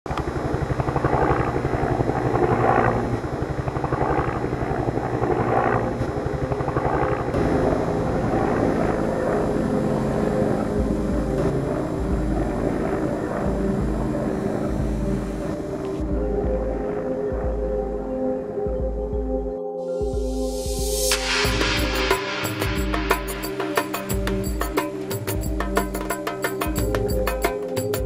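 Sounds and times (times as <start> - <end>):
helicopter rotor beating: 0.1 - 17.7, 21.1 - 28.0
low steady hum with tones: 0.1 - 26.1.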